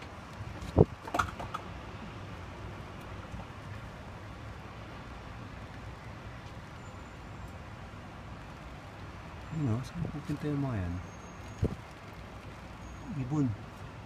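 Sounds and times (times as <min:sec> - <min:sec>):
city background noise: 0:00.0 - 0:14.0.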